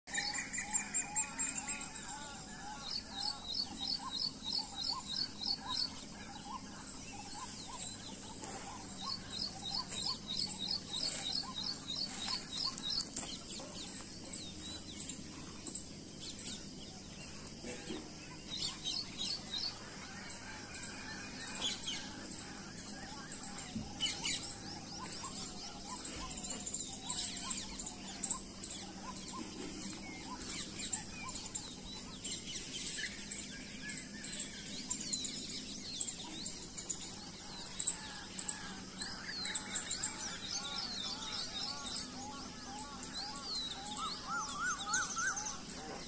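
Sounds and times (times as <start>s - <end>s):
birds warbling: 0.1s - 46.0s.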